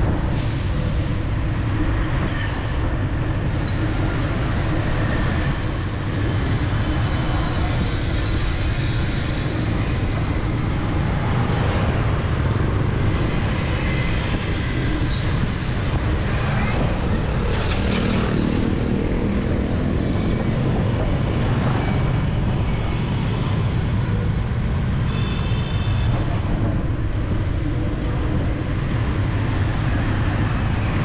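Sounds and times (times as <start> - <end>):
wind rumble on microphone: 0.0 - 25.0, 25.9 - 31.0
passing vehicles: 0.0 - 31.0.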